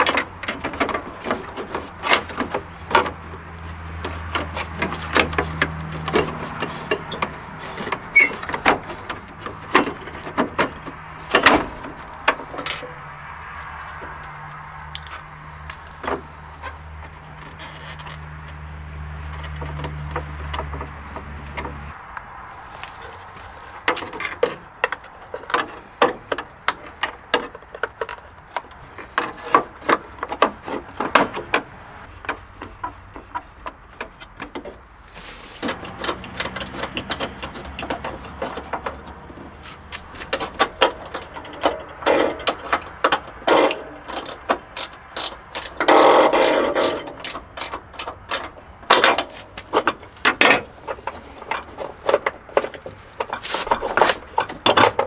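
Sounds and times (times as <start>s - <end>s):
clicks and knocks on car parts: 0.0s - 55.0s
loud scraping rush: 0.0s - 55.0s.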